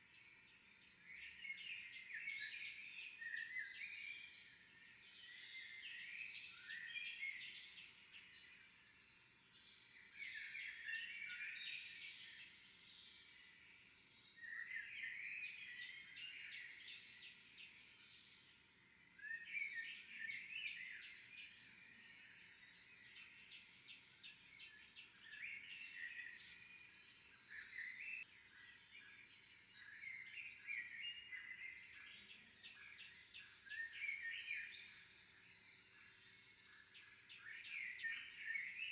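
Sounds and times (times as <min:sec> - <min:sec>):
small songbirds singing: 0:00.0 - 0:38.9.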